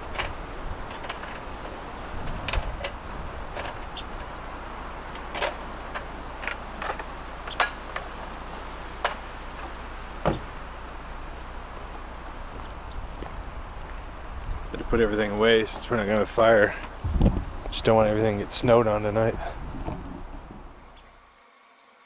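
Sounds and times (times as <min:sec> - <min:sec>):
wind rumble: 0:00.0 - 0:21.1.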